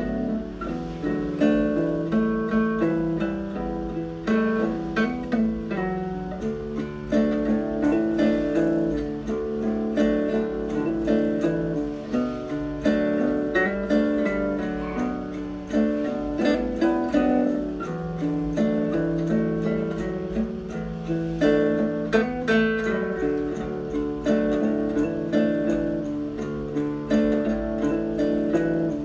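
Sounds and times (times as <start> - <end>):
acoustic guitar picking: 0.0 - 29.0.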